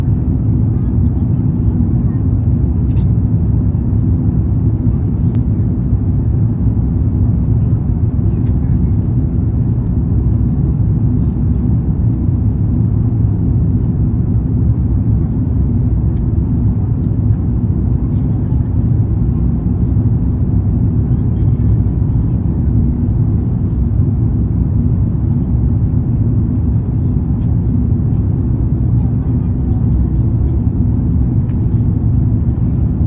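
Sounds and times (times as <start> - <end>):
airliner engines rumbling in cabin: 0.0 - 33.0.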